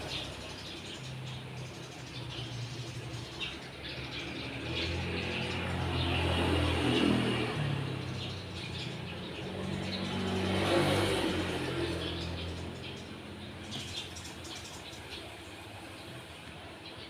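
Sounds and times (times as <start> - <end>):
sparrows chirping: 0.0 - 17.0
vehicle engine hum: 0.0 - 17.0.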